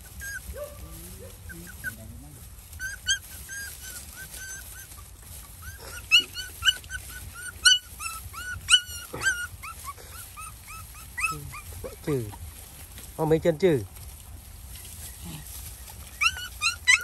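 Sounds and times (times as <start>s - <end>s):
puppies whimpering: 0.0s - 12.4s, 14.8s - 17.0s
puppies yelping: 0.0s - 12.4s, 14.7s - 17.0s.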